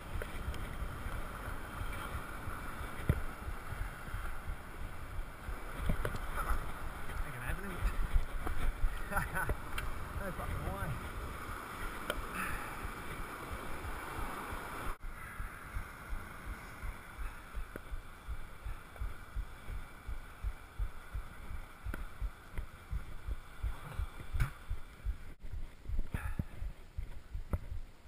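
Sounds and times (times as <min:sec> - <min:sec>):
surf: 0:00.0 - 0:28.0
wind noise: 0:00.0 - 0:28.0.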